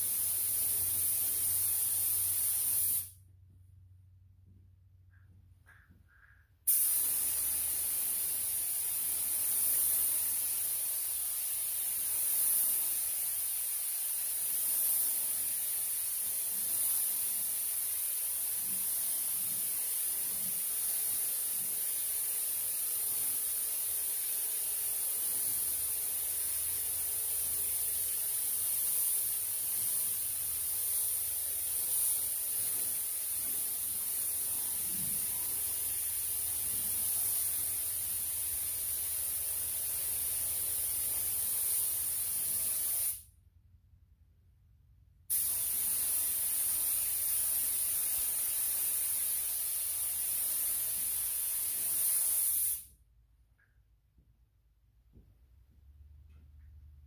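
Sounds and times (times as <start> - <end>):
paint spray gun hissing: 0.0 - 3.2, 6.7 - 43.3, 45.3 - 52.9.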